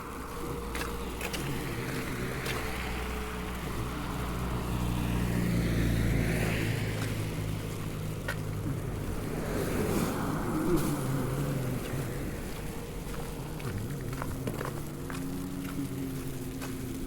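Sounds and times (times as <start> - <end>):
tyre hiss on road: 0.0 - 17.0
vehicle engine drone passing: 0.0 - 17.0.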